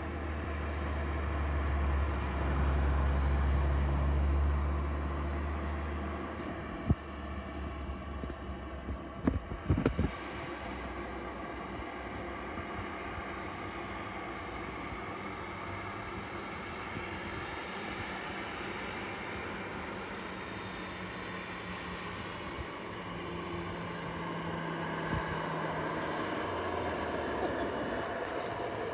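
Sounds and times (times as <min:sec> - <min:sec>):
jet engine rumble and whoosh: 0:00.0 - 0:28.9.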